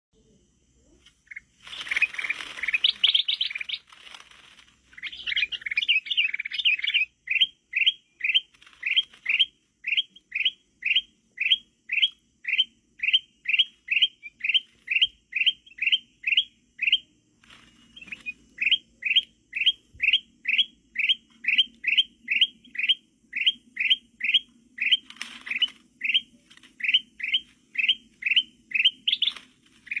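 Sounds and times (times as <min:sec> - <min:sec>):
bulbul chirping: 0:00.8 - 0:03.9, 0:04.9 - 0:17.1, 0:17.7 - 0:30.0
short rising bird chirps: 0:04.9 - 0:30.0.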